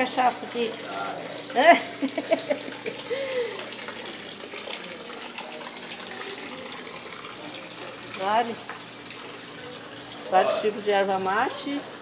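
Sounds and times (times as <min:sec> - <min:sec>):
liquid trickling into a basin: 0:00.0 - 0:12.0.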